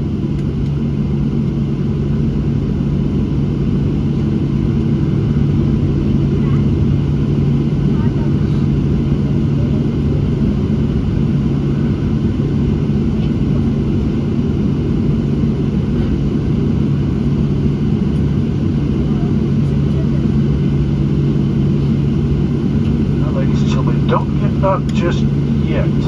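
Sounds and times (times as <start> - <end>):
aircraft cabin engine drone: 0.0 - 26.0.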